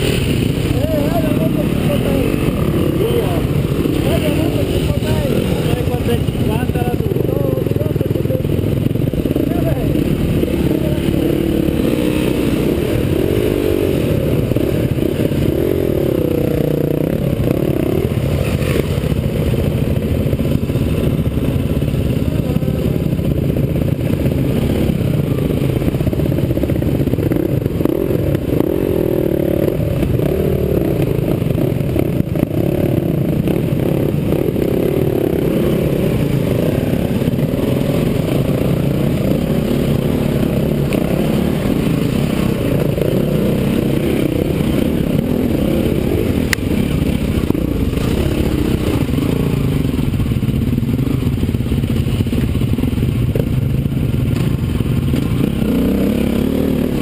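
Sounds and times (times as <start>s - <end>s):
dirt bike engines idling and revving: 0.0s - 57.0s.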